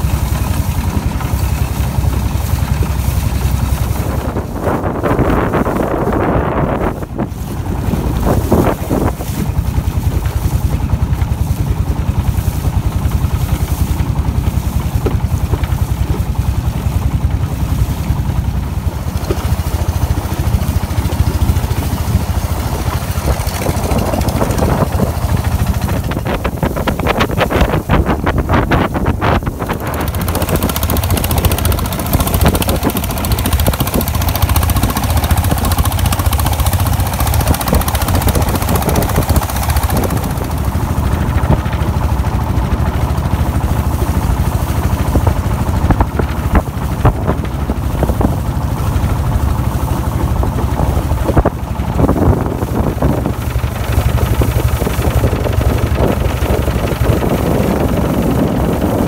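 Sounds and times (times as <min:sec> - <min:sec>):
motorboat engine drone: 0:00.0 - 0:59.0.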